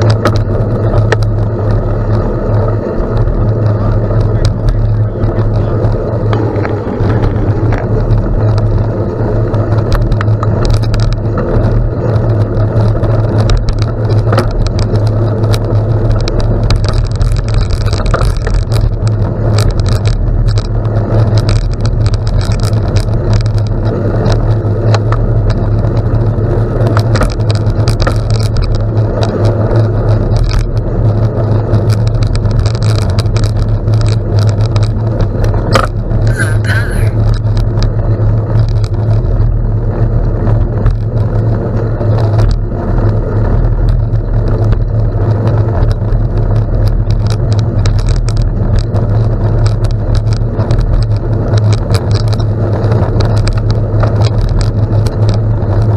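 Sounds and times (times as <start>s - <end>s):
bicycle tyres on gravel: 0.0s - 55.9s
wind rumble on microphone: 0.0s - 55.9s.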